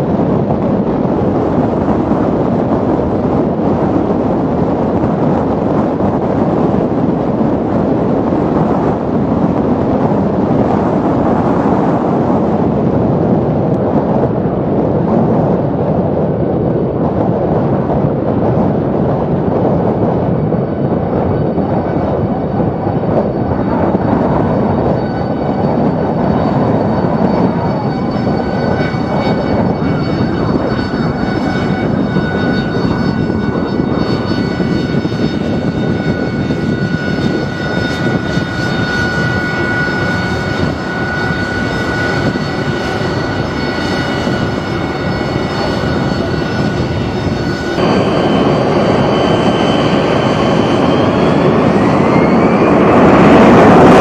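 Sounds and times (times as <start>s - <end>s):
high whine: 0.0s - 54.0s
jet engine roaring: 0.0s - 54.0s.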